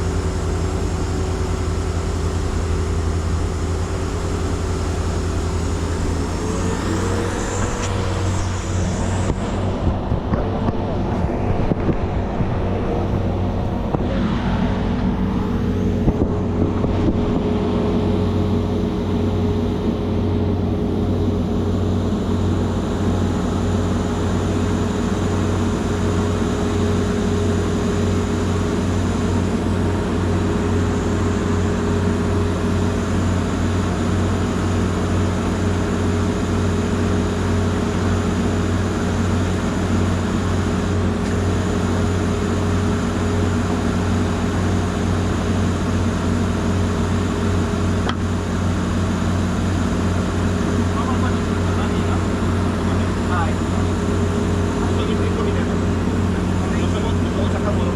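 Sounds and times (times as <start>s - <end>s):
heavy machinery engine running: 0.0s - 57.9s.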